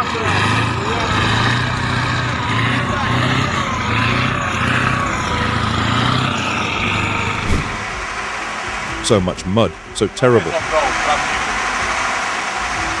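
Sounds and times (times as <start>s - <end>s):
snow vehicle engine running: 0.0s - 13.0s
wavering whine: 0.7s - 13.0s.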